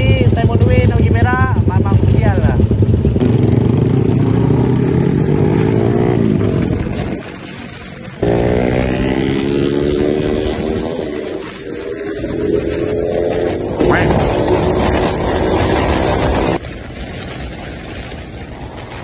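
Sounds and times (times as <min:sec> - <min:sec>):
scooter engine accelerating: 0:00.0 - 0:16.6.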